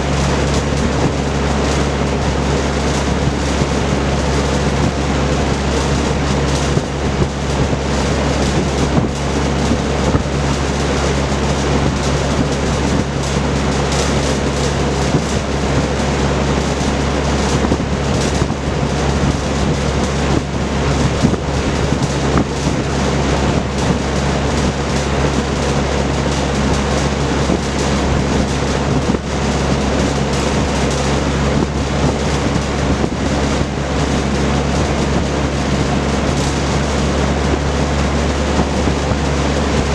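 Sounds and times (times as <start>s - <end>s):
box fan rushing air: 0.0s - 39.9s
low motor hum: 0.0s - 39.9s.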